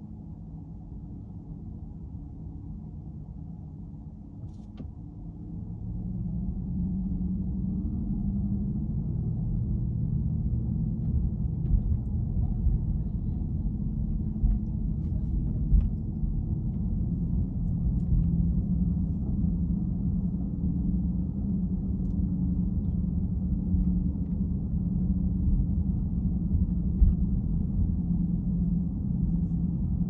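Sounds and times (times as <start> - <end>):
muffled car engine and tyres: 0.8 - 30.0.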